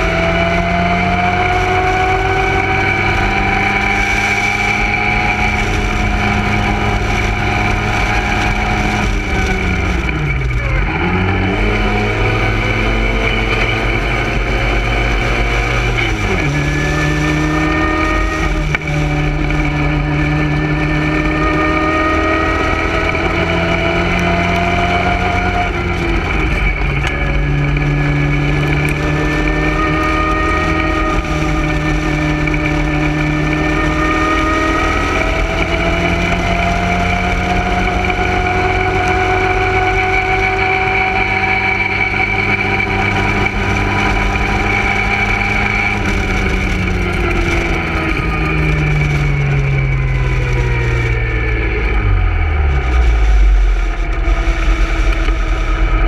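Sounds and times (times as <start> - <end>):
racing car engine at full throttle: 0.0 - 56.0
wind noise: 0.0 - 56.0.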